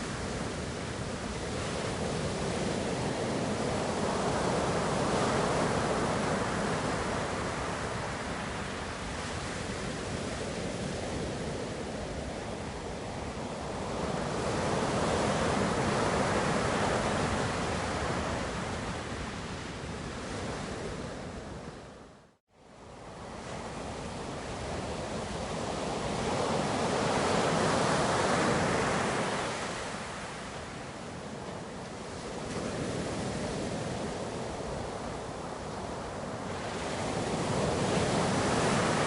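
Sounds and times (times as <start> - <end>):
ocean waves washing in: 0.0 - 39.0.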